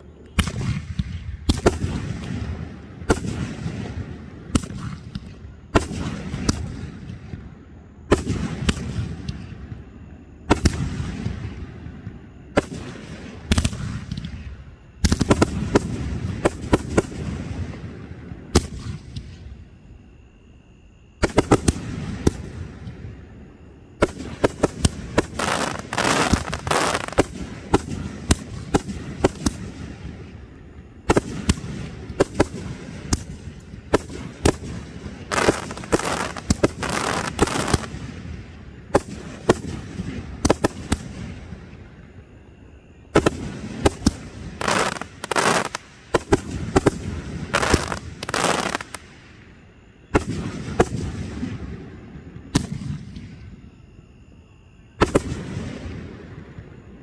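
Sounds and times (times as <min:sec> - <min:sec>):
fireworks bursting with sharp bangs: 0:00.0 - 0:19.6, 0:21.2 - 0:42.0, 0:43.0 - 0:53.6, 0:55.0 - 0:57.0.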